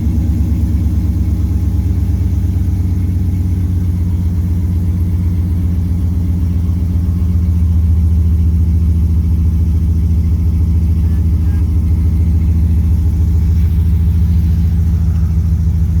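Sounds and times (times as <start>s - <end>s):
pickup exhaust idling: 0.0s - 16.0s.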